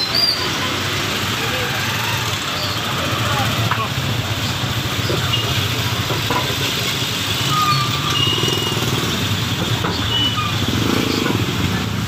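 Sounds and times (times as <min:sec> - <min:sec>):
motorcycle engines passing: 0:00.0 - 0:12.0.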